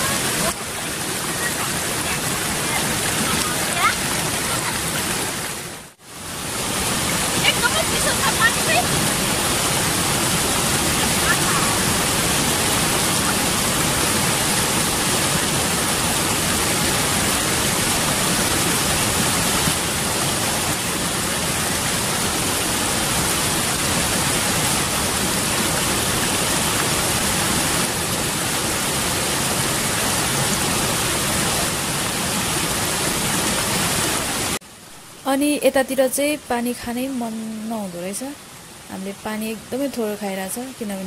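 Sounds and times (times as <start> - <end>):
stream cascading over rocks: 0.0 - 35.2, 35.9 - 41.0.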